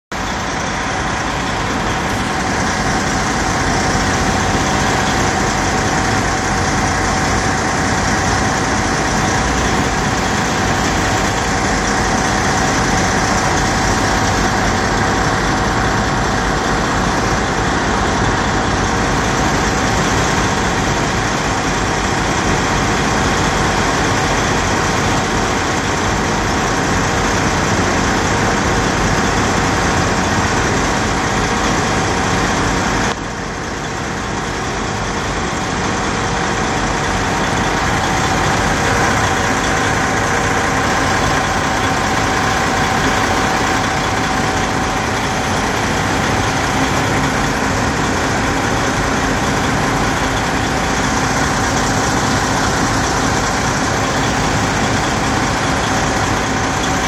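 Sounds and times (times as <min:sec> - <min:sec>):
diesel truck engine idling: 0:00.1 - 0:57.0.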